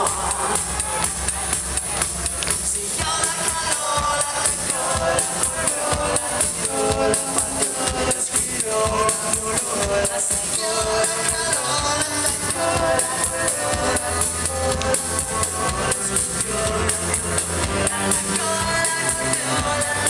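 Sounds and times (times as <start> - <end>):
fast hand percussion rhythm: 0.0 - 20.0
live rock band playing: 0.0 - 20.0.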